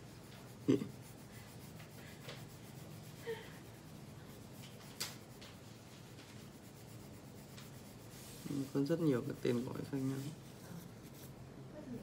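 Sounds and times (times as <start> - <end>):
pencil scratching on paper: 0.0 - 11.4.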